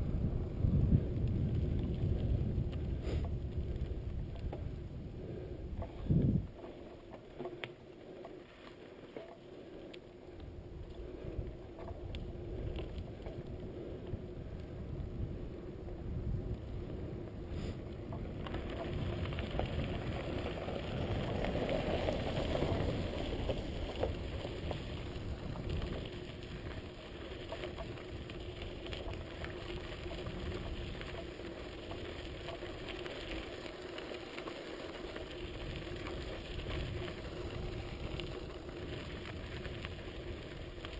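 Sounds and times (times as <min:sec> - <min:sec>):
bicycle tyres rolling on road: 0:00.0 - 0:40.9
tyres rolling on gravel: 0:00.2 - 0:40.9.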